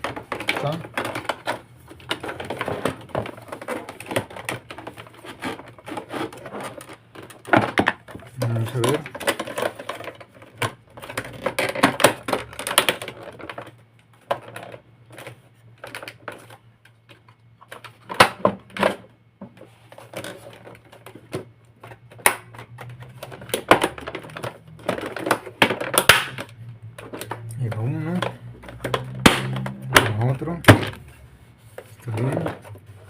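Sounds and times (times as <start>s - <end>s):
plastic vacuum parts clicking: 0.0s - 31.0s.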